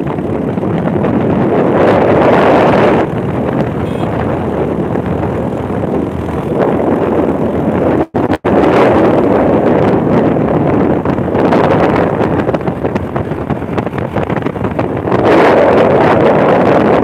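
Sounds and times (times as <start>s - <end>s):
motorcycle engine: 0.0s - 17.0s
road noise: 0.0s - 17.0s
wind rushing over microphone: 0.0s - 17.0s.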